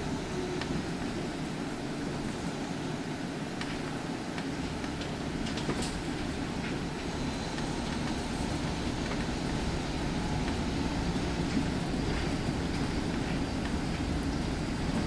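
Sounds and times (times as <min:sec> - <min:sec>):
bus interior rolling rumble: 0:00.0 - 0:15.0.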